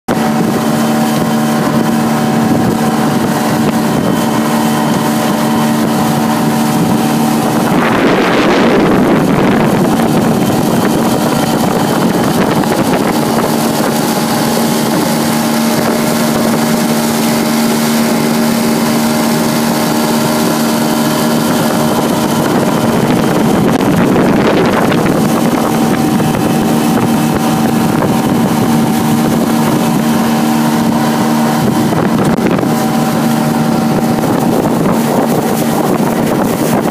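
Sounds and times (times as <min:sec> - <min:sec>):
outboard motor running: 0:00.1 - 0:36.9
wind gusts on microphone: 0:00.1 - 0:36.9.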